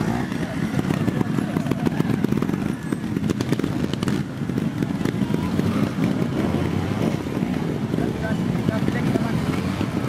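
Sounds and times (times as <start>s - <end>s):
motorcycle engine running at low revs: 0.0s - 10.0s.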